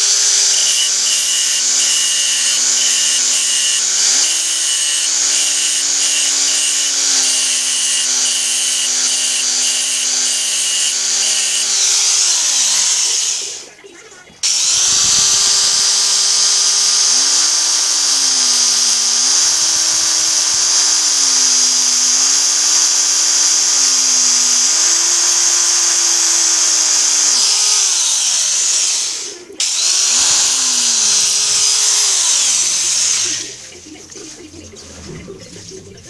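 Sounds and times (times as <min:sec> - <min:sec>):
electric drill drilling metal: 0:00.0 - 0:13.7, 0:14.4 - 0:33.8.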